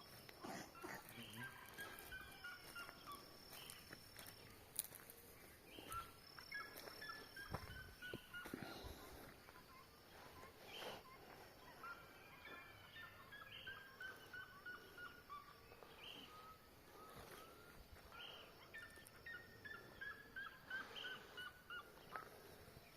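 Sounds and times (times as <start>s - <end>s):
faint bird calls: 0.0s - 22.9s.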